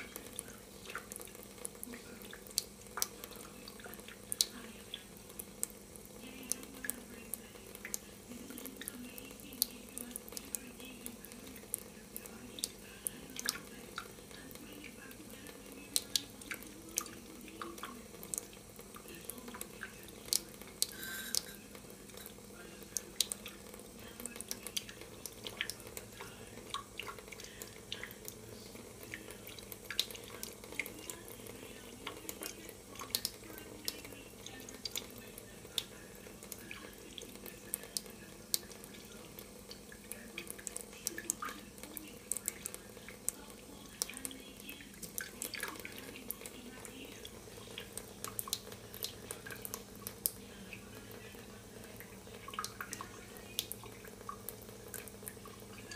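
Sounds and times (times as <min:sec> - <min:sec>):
drip-like ticks and splashes: 0:00.0 - 0:55.9
faucet running into metal sink: 0:00.0 - 0:55.9.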